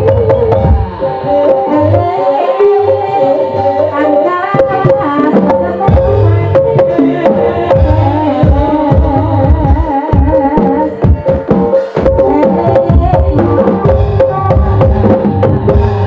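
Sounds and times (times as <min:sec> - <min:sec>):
wavering melody line: 0:00.0 - 0:16.0.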